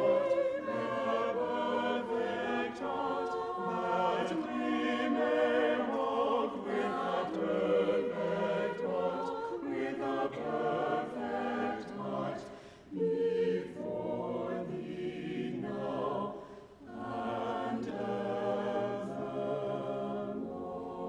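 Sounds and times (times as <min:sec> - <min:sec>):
choir singing sustained chords: 0:00.0 - 0:21.0.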